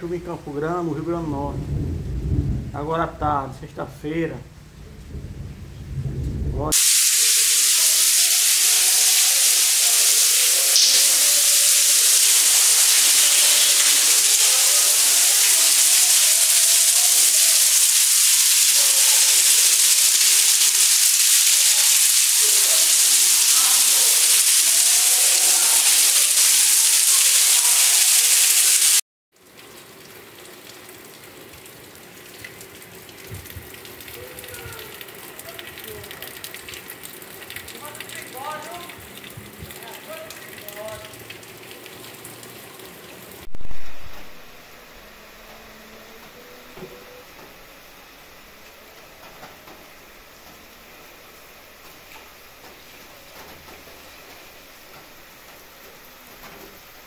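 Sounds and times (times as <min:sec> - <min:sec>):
light rain patter: 0:00.0 - 0:57.0
heavy rain pouring: 0:00.4 - 0:57.0.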